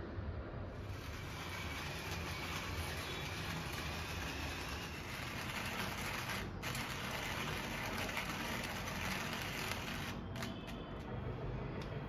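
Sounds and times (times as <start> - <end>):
coffee grinder grinding beans: 0.8 - 10.8.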